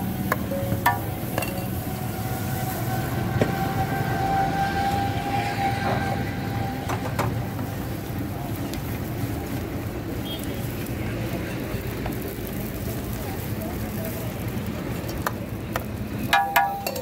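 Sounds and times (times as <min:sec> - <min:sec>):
food sizzling on a griddle: 0:00.0 - 0:17.0
street noise rumble: 0:00.0 - 0:17.0.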